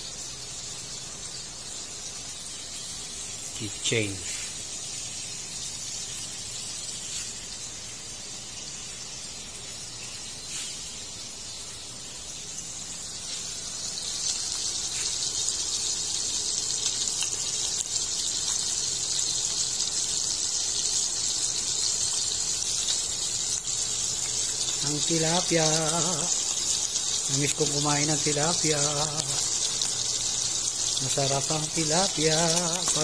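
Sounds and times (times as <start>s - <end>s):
fish sizzling in hot oil: 0.0s - 33.0s.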